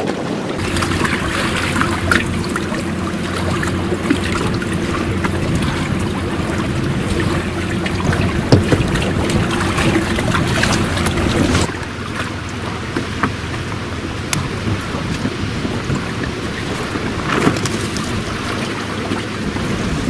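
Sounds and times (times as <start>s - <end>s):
water splashing along a hull: 0.0s - 20.0s
steady low hum: 0.6s - 20.0s.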